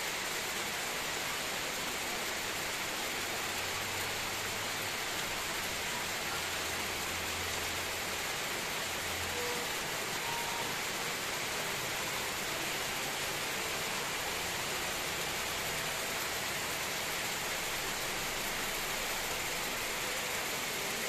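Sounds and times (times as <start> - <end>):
heavy rain on trees: 0.0 - 21.0.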